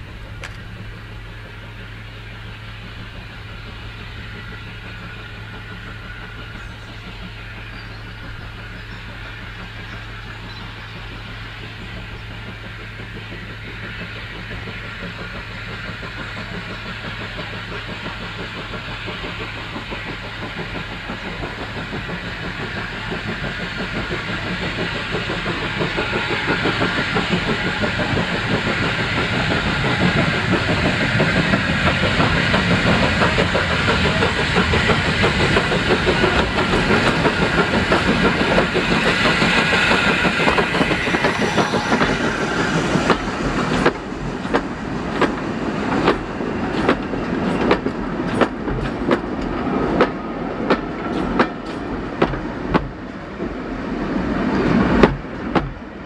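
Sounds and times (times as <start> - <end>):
coach wheels clacking over rail joints: 0.0 - 56.0
steam locomotive approaching: 0.0 - 56.0.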